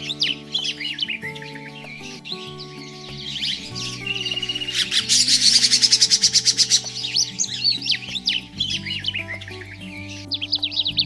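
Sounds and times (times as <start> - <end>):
background music: 0.0 - 11.0
lovebirds chirping: 0.0 - 11.0.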